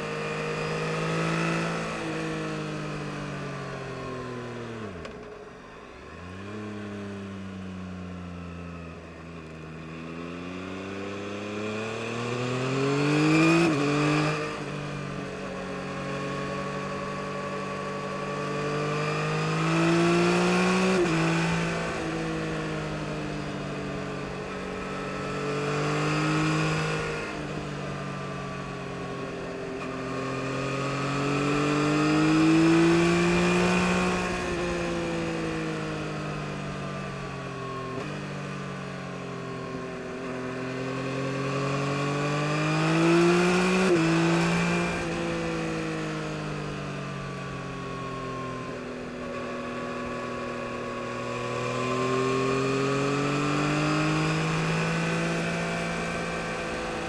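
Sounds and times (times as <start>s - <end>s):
motorcycle engine revving: 9.4s - 57.0s.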